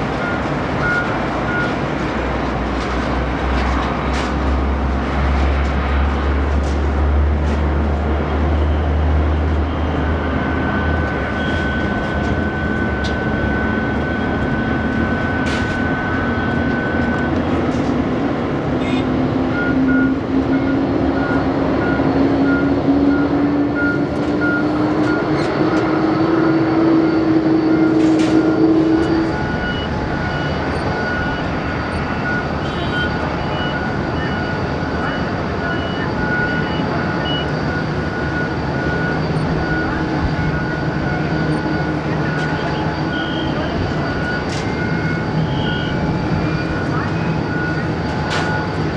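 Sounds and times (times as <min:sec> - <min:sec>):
jet engines roaring: 0:00.0 - 0:48.9
engine whine rising: 0:04.6 - 0:48.9.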